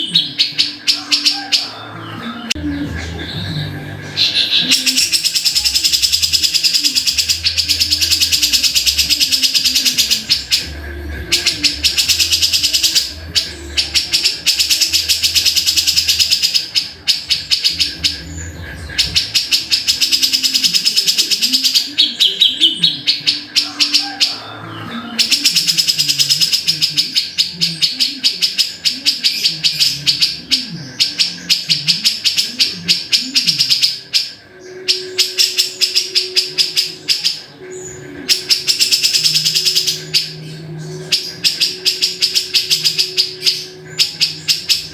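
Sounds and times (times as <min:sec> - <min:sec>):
bird chattering calls: 0:00.0 - 0:44.9.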